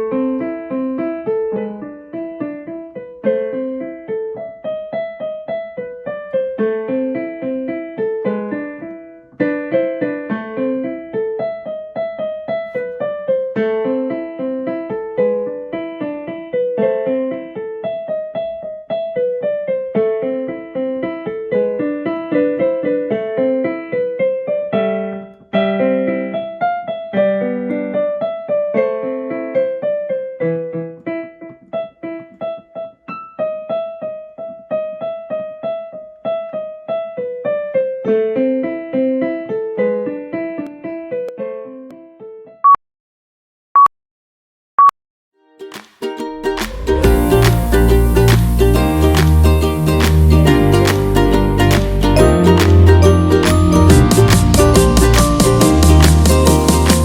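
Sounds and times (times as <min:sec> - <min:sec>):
solo piano music: 0:00.0 - 0:42.7, 0:45.6 - 0:57.0.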